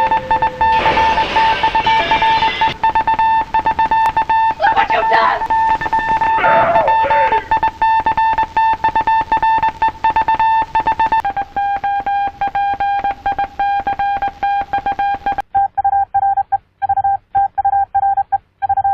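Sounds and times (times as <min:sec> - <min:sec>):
morse code beeps: 0:00.0 - 0:18.9.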